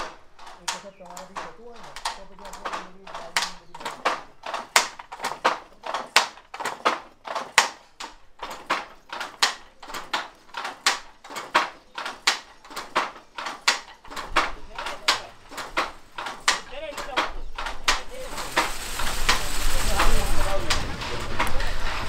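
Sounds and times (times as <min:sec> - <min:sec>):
handloom wooden clacks: 0:00.0 - 0:22.0.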